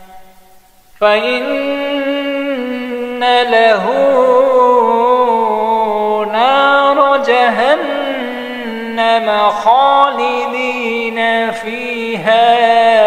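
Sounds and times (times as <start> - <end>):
person reciting melodically: 1.0 - 13.0.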